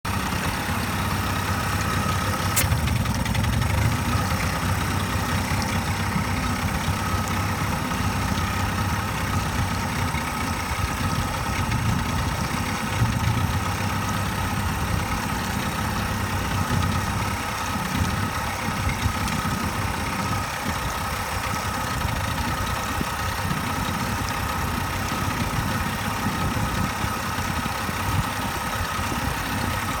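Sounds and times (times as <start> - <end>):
outboard motor idling roughly: 0.0 - 30.0.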